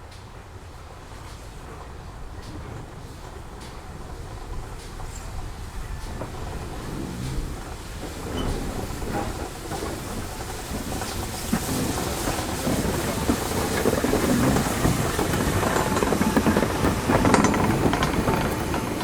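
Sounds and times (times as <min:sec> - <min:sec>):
steam locomotive rumbling: 0:00.0 - 0:19.0.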